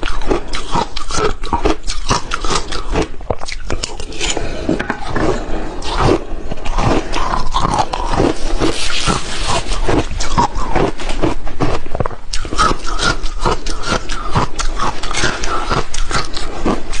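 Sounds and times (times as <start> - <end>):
crushed ice being chewed: 0.0 - 17.0.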